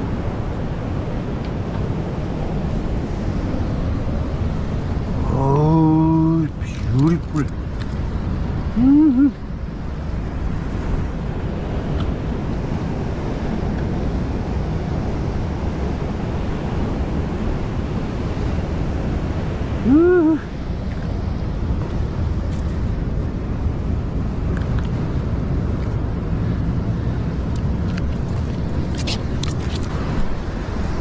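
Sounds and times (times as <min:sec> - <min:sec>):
surf washing over rocks: 0:00.0 - 0:31.0
wind on microphone: 0:00.0 - 0:31.0.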